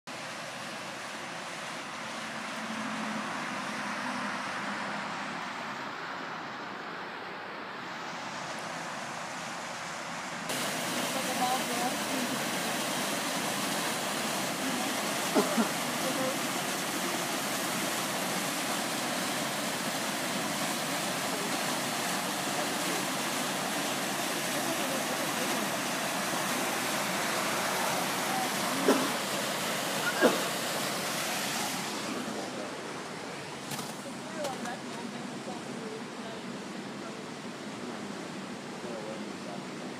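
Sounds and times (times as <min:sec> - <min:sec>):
stream cascading over rocks: 0:00.1 - 0:06.7, 0:07.7 - 0:39.9.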